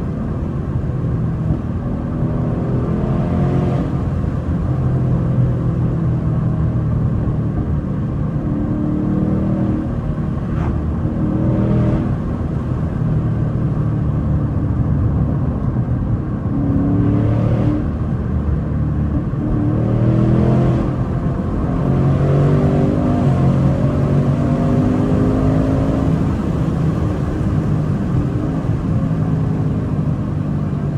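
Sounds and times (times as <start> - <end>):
car engine accelerating through gears: 0.0 - 30.9.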